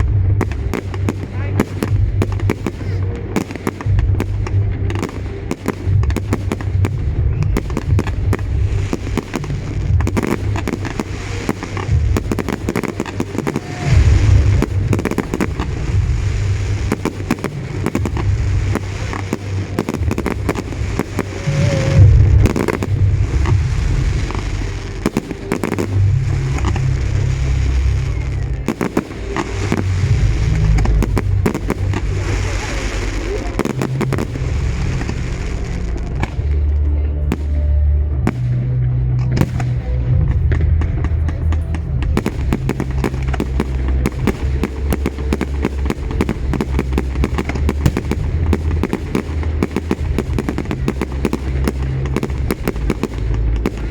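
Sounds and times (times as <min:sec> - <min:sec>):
deep fireworks booms: 0:00.0 - 0:53.9
fireworks crackles and bangs: 0:00.0 - 0:53.9.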